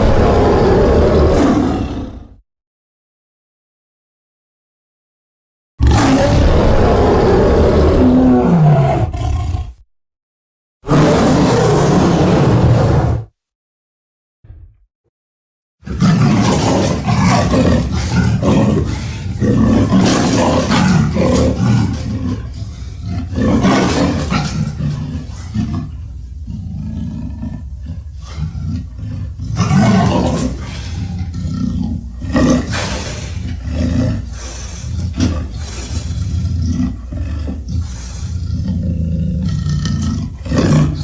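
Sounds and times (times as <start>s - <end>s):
monster roaring: 0.0s - 2.4s, 5.8s - 9.8s, 10.9s - 13.3s, 15.9s - 26.0s, 26.8s - 41.0s.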